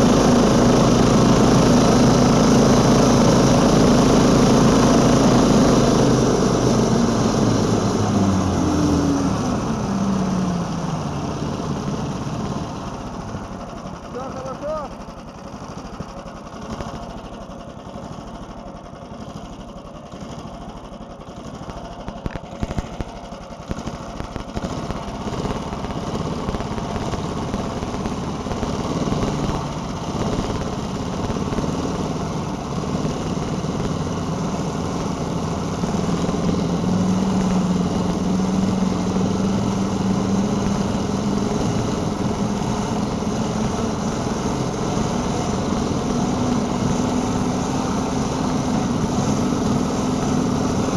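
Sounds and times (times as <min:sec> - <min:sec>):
small snowmobile engine running: 0:00.0 - 0:50.9.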